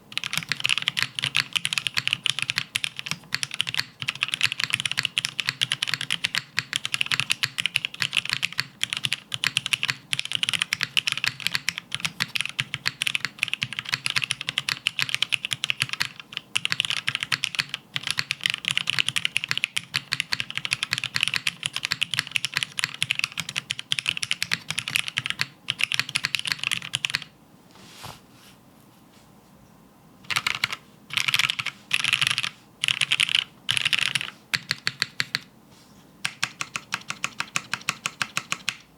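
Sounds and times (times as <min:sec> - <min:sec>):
mechanical keyboard typing: 0:00.1 - 0:27.3, 0:30.3 - 0:35.5, 0:36.2 - 0:38.9.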